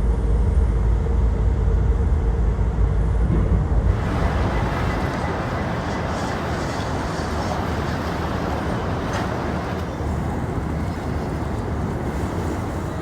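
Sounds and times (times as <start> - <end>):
vehicle traffic rumble: 2.0 - 13.0.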